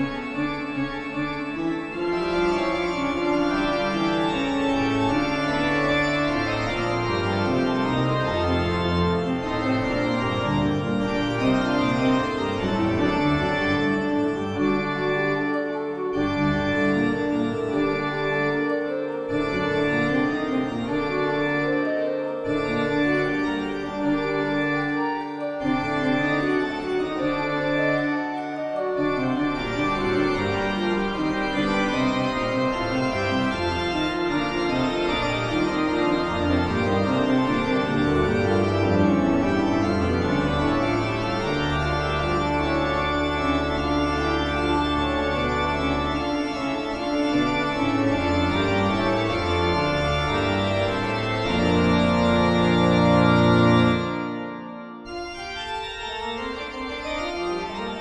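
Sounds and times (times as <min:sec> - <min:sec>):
organ music: 0:00.0 - 0:58.0.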